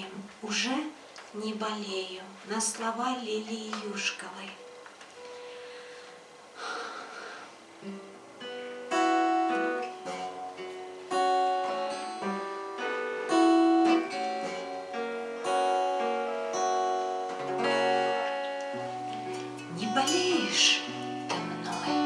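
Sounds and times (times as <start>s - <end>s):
acoustic guitar playing: 3.9s - 22.0s.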